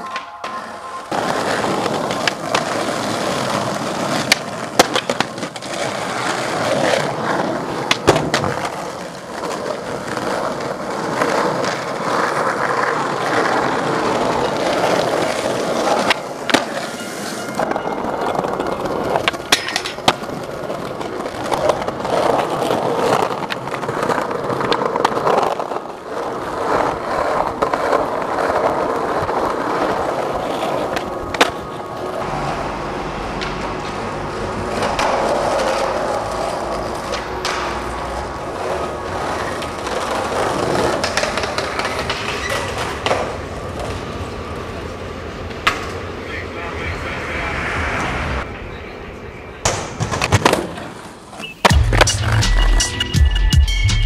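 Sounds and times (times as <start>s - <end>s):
skateboard clacks: 0.0s - 47.0s, 49.6s - 52.3s
skateboard wheels rolling on asphalt: 0.0s - 52.1s.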